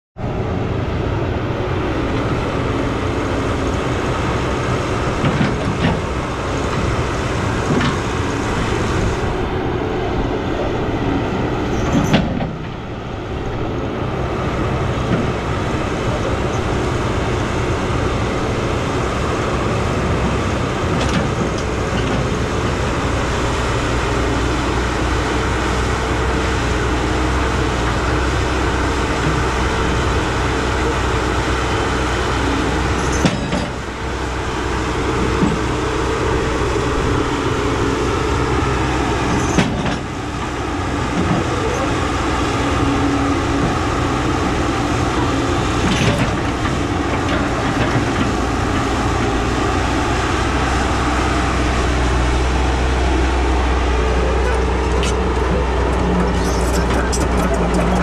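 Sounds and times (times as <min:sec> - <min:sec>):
excavator diesel engine running: 0:00.2 - 0:58.0
steel tracks clattering: 0:03.5 - 0:13.6, 0:14.5 - 0:58.0.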